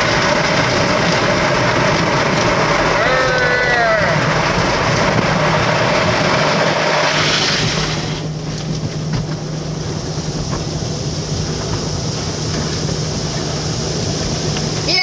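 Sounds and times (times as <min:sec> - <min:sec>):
steady low hum: 0:00.0 - 0:15.0
water spray rushing on car: 0:00.0 - 0:15.0.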